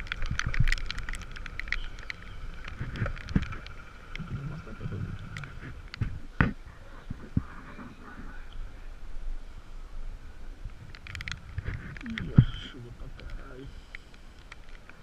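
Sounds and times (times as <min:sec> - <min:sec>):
faint background noise: 0:00.0 - 0:15.0
rain gear rustling: 0:00.0 - 0:15.0.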